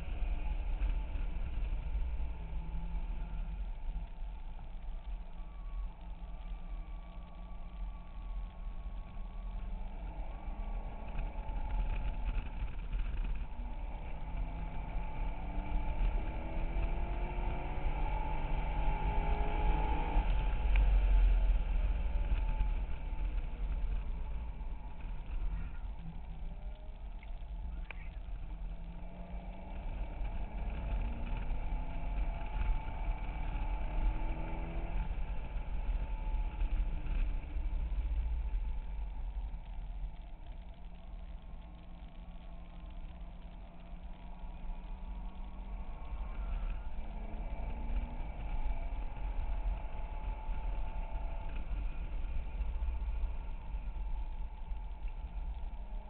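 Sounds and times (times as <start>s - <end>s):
heavy low rumble: 0.0s - 56.0s
car engine revving: 9.7s - 56.0s.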